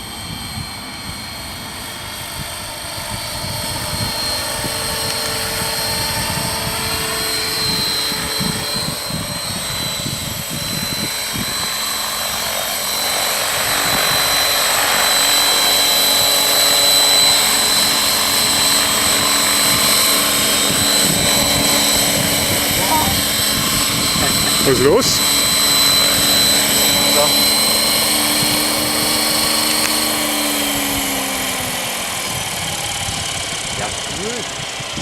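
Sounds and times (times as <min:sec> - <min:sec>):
high-pitched motor and gear whine: 0:00.0 - 0:35.0
rotor blades chopping: 0:03.0 - 0:35.0.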